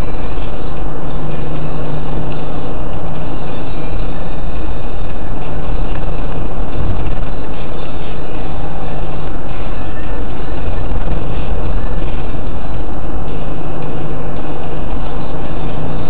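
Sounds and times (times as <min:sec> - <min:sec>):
car engine and road noise: 0:00.0 - 0:16.0
constant low hum: 0:00.0 - 0:16.0.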